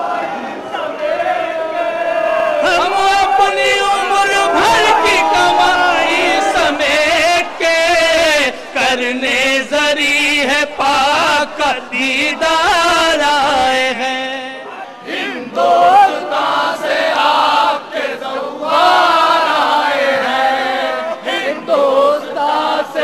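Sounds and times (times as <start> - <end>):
men chanting: 0.0 - 23.0.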